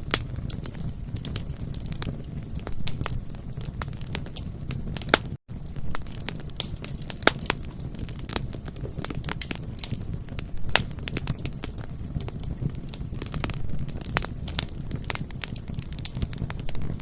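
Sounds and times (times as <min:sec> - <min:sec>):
bonfire crackling and popping: 0:00.0 - 0:17.0
low rumble of flame: 0:00.0 - 0:17.0.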